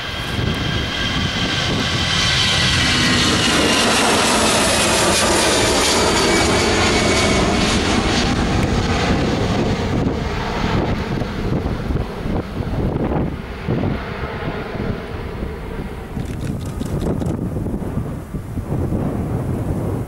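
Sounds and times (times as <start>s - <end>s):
jet engine roar at takeoff: 0.0s - 20.0s.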